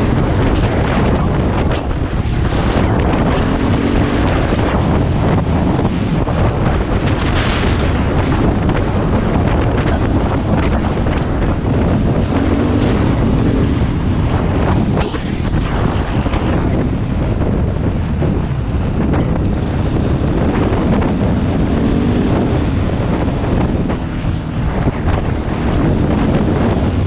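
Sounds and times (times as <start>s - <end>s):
motorcycle engine running: 0.0s - 27.0s
wind rushing over microphone: 0.0s - 27.0s.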